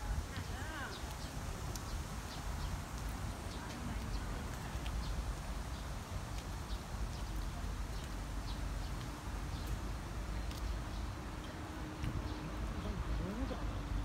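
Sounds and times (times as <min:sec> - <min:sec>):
footsteps on brick path: 0:00.0 - 0:14.0.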